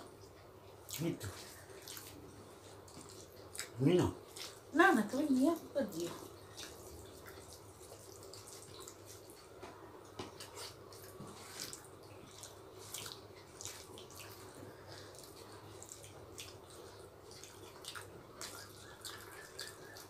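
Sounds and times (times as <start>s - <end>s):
wet chewing and finger smacks: 0.2s - 4.7s, 6.4s - 20.0s.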